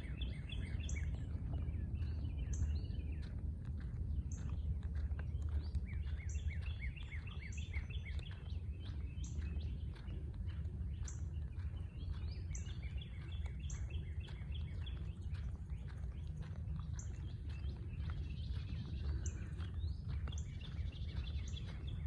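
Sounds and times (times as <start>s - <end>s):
birds singing and chirping: 0.0s - 22.0s
steady low rumble: 0.0s - 22.0s.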